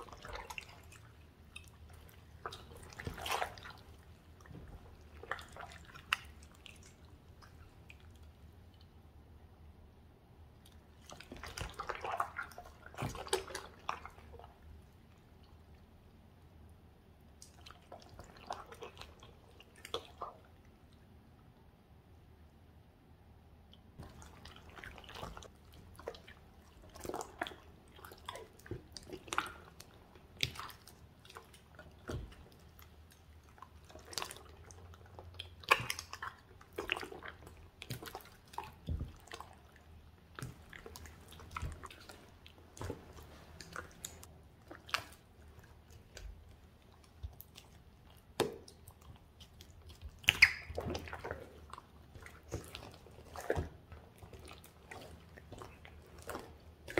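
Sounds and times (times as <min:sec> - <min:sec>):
slime squelching and popping: 0:00.0 - 0:08.8, 0:10.6 - 0:14.6, 0:23.8 - 0:56.9.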